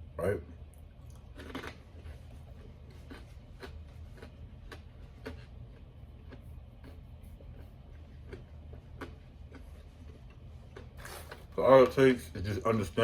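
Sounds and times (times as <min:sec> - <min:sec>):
low steady hum: 0:00.0 - 0:13.0
chewing: 0:00.7 - 0:11.6.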